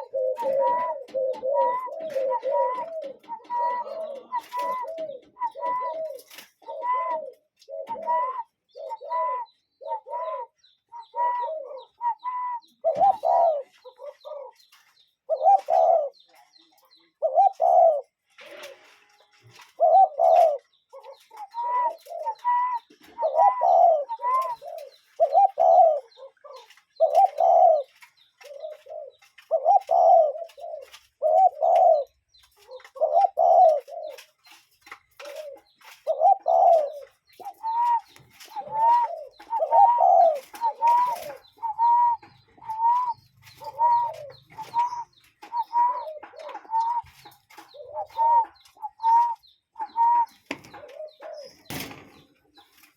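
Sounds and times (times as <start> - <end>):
cuckoo calling: 0.0 - 52.9.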